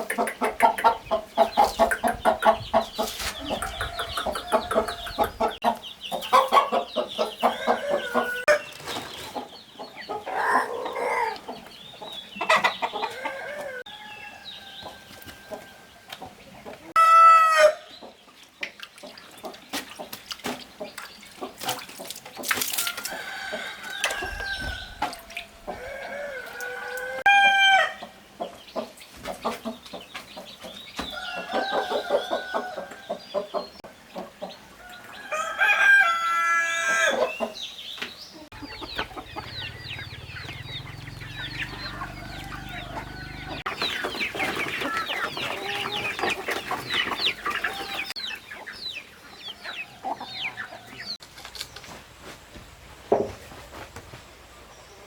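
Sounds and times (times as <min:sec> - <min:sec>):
chickens clucking: 0:00.0 - 0:52.4.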